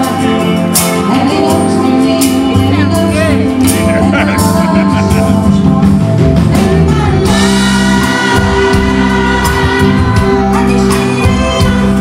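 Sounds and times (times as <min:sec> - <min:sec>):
electric guitar: 0:00.0 - 0:12.0
keyboard: 0:00.0 - 0:12.0
man singing: 0:00.0 - 0:12.0.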